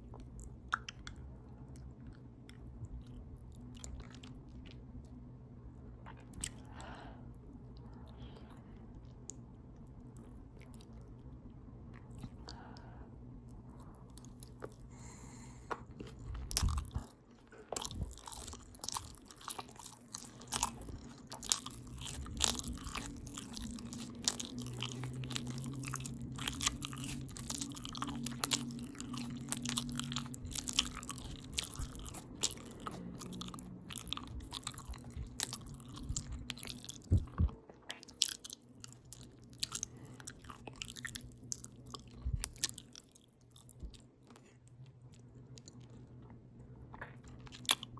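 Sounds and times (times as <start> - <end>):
open-mouth chewing: 0.0 - 5.2, 6.0 - 6.8, 7.4 - 47.9.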